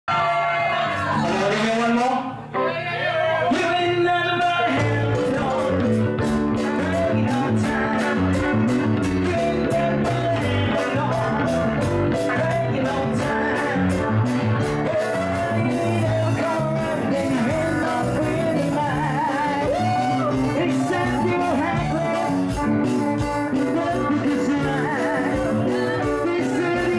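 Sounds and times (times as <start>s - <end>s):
live band playing: 0.1s - 26.9s
man singing into microphone: 3.5s - 26.9s.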